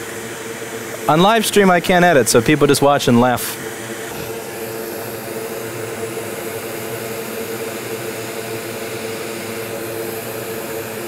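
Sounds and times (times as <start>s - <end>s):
blower fan whirring: 0.0s - 11.0s.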